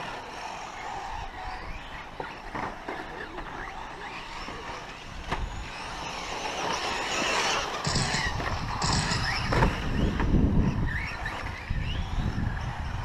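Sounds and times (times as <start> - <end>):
electric motors whining: 0.0 - 13.0
steady rushing noise: 0.0 - 13.0.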